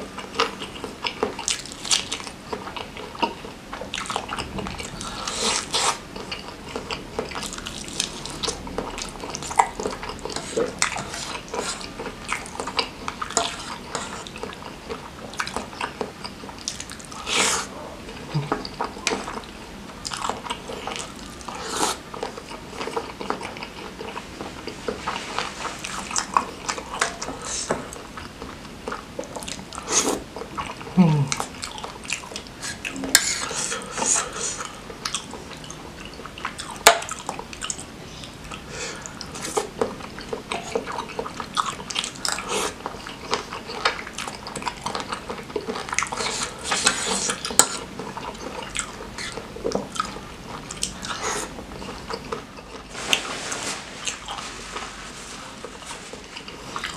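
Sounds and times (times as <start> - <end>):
wet chewing: 0.0 - 53.3, 54.0 - 56.9.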